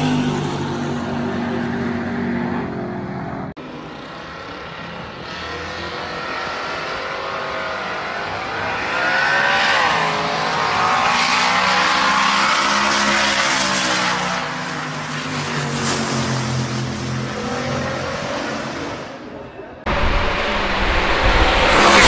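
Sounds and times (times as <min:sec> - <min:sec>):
car engine at full throttle: 0:00.0 - 0:19.2, 0:19.8 - 0:22.0.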